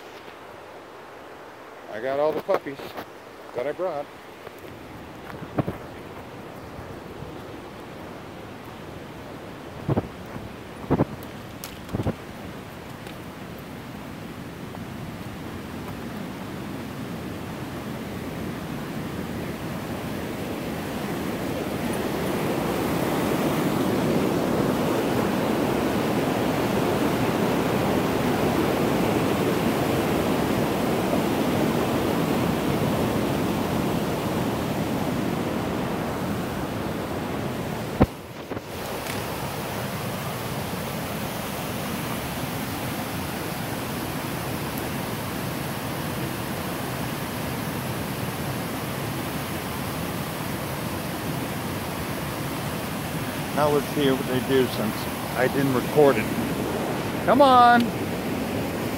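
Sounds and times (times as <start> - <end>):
rushing creek water: 0.0 - 58.9.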